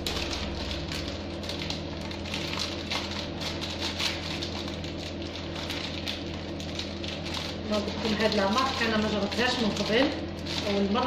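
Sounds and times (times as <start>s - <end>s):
plastic packaging crinkling: 0.0s - 11.0s
steady low hum: 0.0s - 11.0s.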